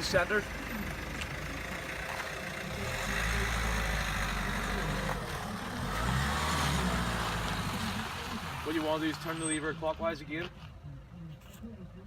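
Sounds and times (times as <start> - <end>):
motor vehicle passing: 0.0 - 9.7.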